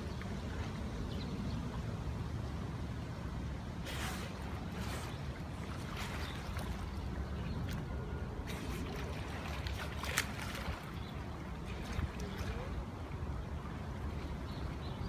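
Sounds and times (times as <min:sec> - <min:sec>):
water lapping and sloshing: 0:00.0 - 0:15.0.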